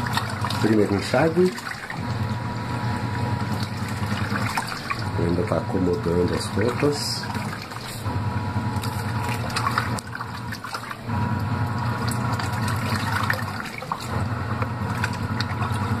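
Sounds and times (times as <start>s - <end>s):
washing machine motor humming: 0.0s - 16.0s
water sloshing: 0.0s - 16.0s.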